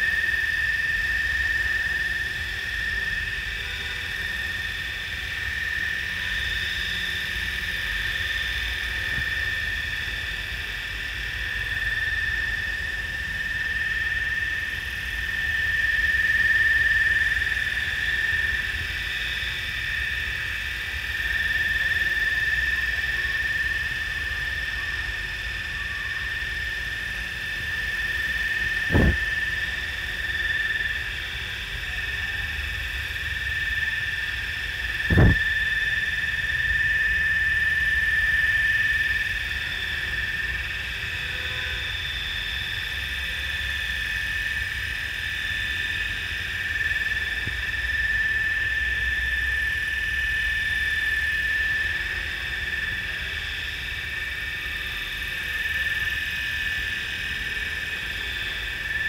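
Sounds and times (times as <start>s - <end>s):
rc helicopter rotor whine: 0.0s - 59.0s.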